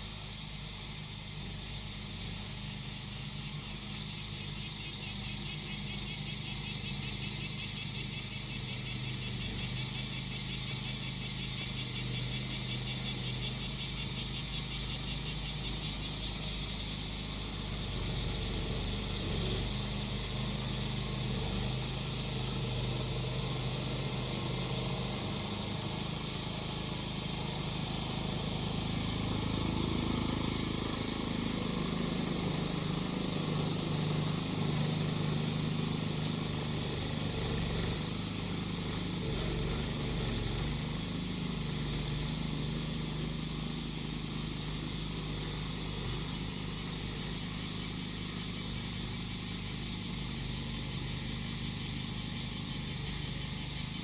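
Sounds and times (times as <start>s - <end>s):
cicadas pulsing chorus: 0.0s - 54.0s
grass cutter engine running: 0.0s - 54.0s.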